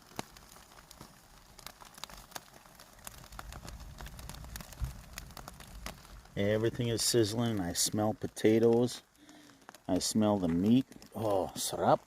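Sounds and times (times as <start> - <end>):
faint crackles and pops: 0.0 - 12.0
food sizzling on campfire: 0.0 - 12.0.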